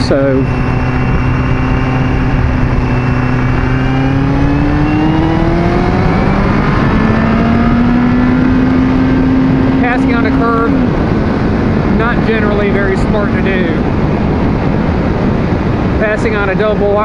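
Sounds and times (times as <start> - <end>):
motorcycle engine accelerating: 0.0 - 16.5
wind rush over microphone: 0.0 - 17.0.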